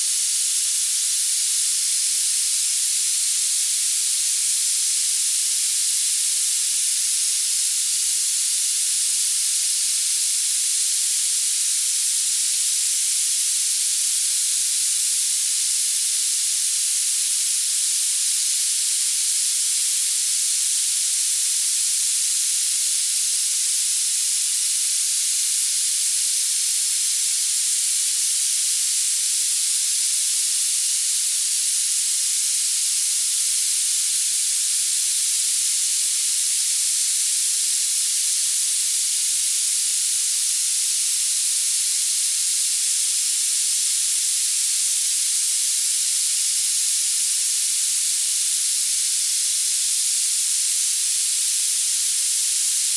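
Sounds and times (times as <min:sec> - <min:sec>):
high-pitched hiss: 0:00.0 - 0:52.9.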